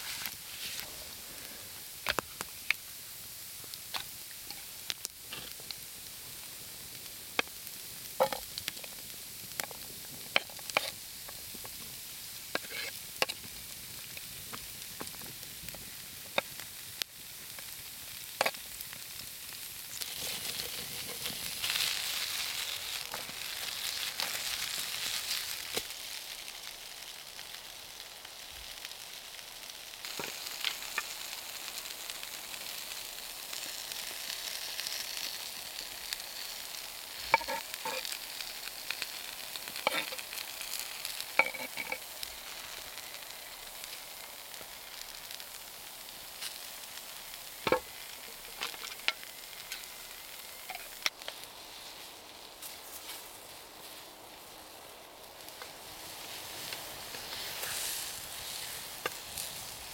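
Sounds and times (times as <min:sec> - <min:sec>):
fire crackling: 0:00.0 - 0:59.9
food sizzling in a pan: 0:00.0 - 0:59.9.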